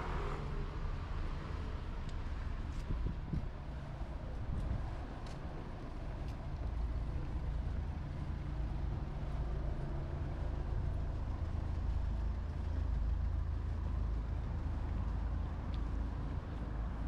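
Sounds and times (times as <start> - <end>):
passing road traffic rumble: 0.0 - 17.0.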